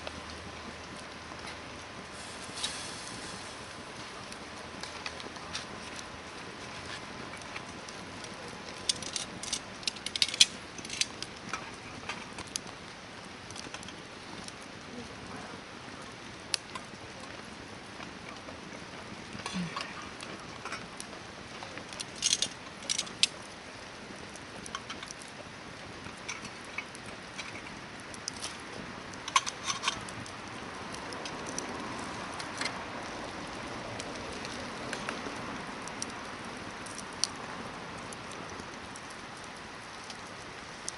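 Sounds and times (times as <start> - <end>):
campfire hissing: 0.0 - 40.9
fire crackles and sharp pops: 0.0 - 40.9.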